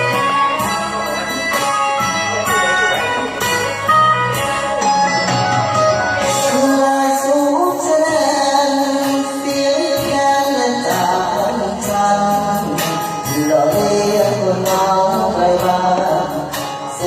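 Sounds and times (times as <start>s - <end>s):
bamboo mouth organ melody: 0.0s - 17.0s.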